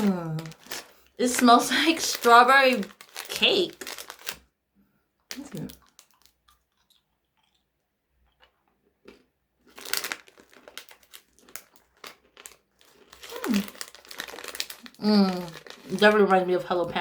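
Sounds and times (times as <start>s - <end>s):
plastic wrapper crinkling: 0.0s - 4.6s, 5.2s - 7.6s, 8.4s - 17.0s.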